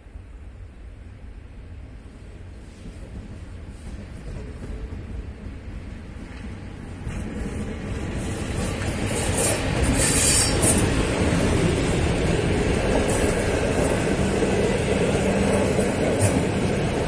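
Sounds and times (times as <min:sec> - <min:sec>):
train wheels rumbling on rails: 0:01.7 - 0:17.0.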